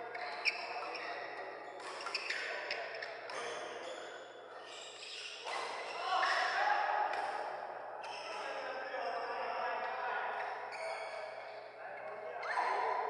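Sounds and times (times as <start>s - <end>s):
shoes squeaking on court floor: 0.0s - 6.6s, 8.0s - 9.4s, 10.4s - 13.0s
sports hall background noise: 0.0s - 13.0s.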